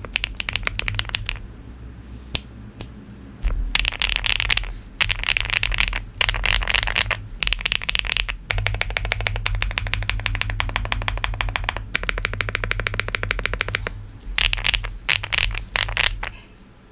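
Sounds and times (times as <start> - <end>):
mechanical keyboard typing: 0.0 - 1.5, 3.4 - 16.5.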